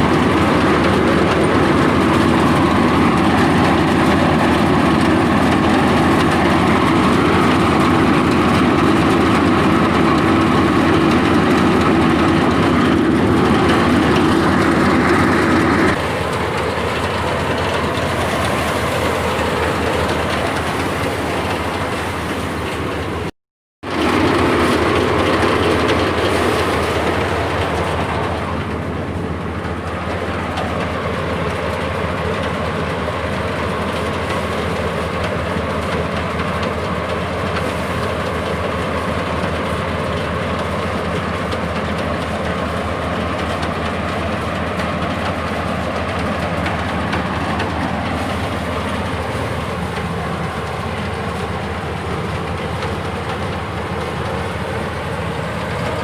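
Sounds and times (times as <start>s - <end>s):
machine clattering rhythmically: 0.0s - 56.0s.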